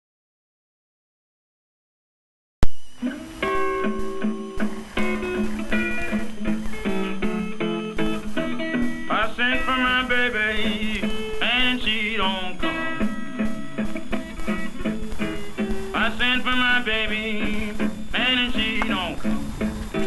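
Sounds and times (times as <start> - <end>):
acoustic blues guitar picking: 3.0 - 20.0.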